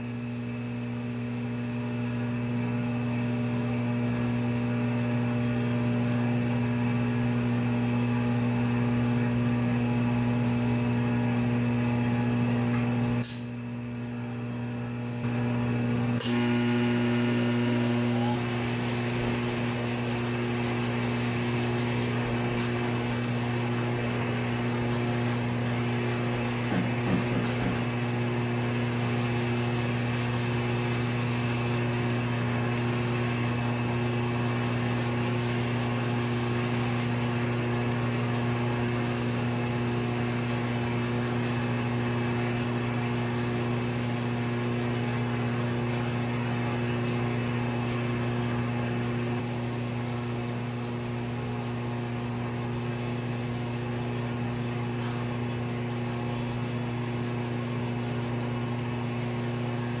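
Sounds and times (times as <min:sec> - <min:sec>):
grinder motor humming with hiss: 0:00.0 - 1:00.0.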